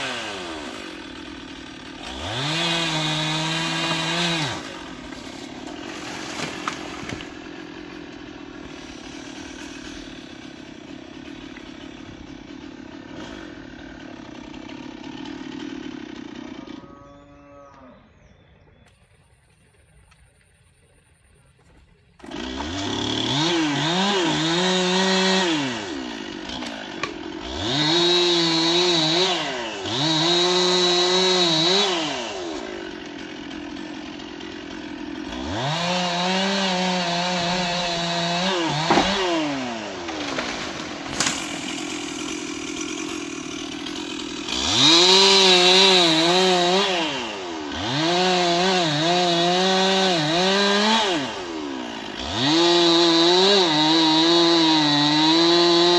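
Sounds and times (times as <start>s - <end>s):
chainsaw revving and idling: 0.0s - 18.3s, 22.2s - 55.9s.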